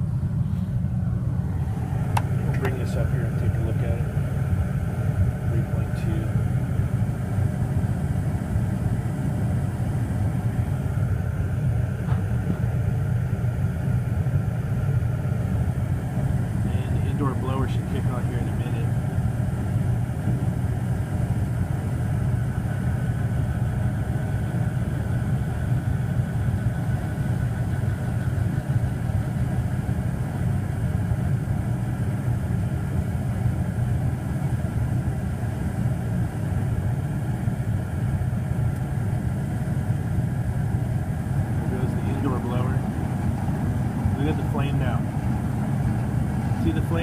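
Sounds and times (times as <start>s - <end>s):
gas furnace running: 0.0s - 47.0s.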